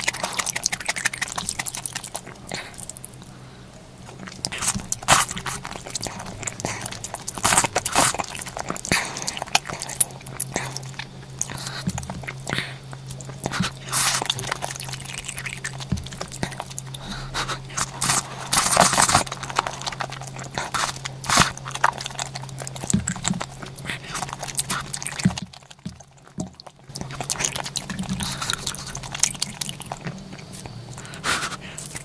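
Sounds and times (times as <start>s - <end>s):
wet mouth noises: 0.0s - 3.3s, 4.0s - 32.0s
person chewing food: 0.0s - 32.0s
steady low hum: 0.0s - 32.0s.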